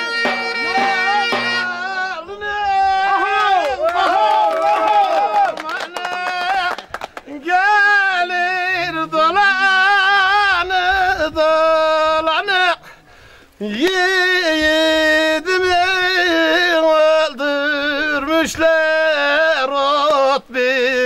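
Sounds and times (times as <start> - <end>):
man singing unaccompanied: 0.0 - 3.8, 5.3 - 12.9, 13.6 - 21.0.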